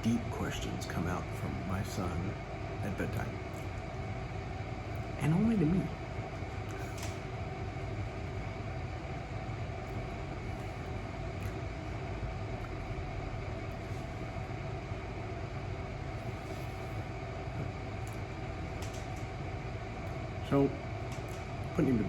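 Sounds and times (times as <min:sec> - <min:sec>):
low mechanical hum and rumble: 0:00.0 - 0:22.0.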